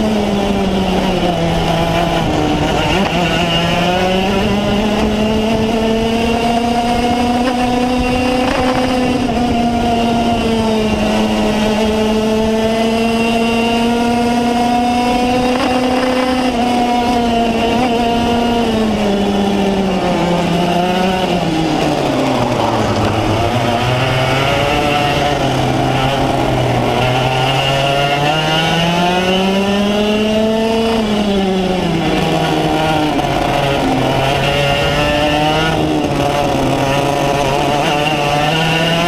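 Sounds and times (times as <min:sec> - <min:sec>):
kart engine revving: 0:00.0 - 0:39.0.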